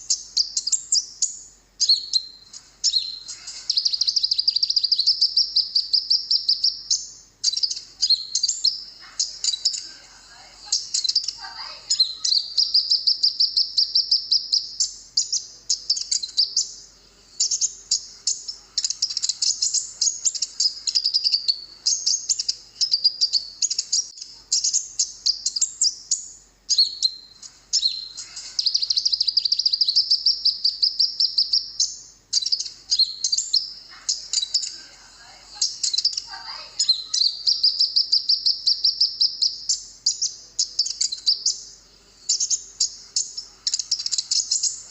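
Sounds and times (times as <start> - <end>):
bird twittering trills: 0.0 - 44.9.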